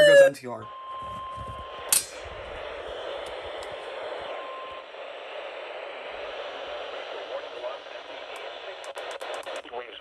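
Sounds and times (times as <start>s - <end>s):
radio static hiss: 1.5s - 10.0s.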